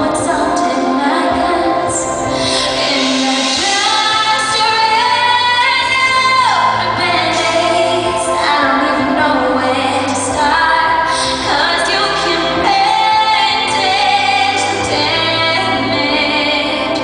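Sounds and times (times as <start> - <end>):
woman singing a ballad: 0.0 - 17.0.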